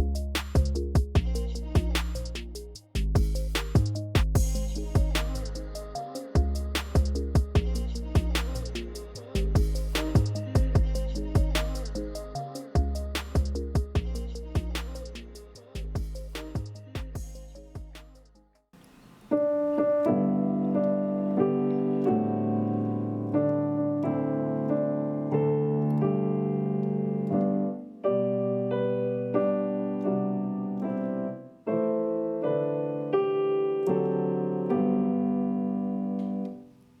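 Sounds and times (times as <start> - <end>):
gentle piano chords: 3.3 - 18.0, 19.3 - 36.7.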